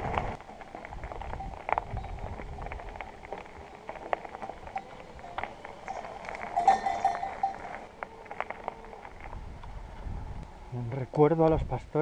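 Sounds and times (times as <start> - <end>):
bike rattling over gravel: 0.0 - 10.4.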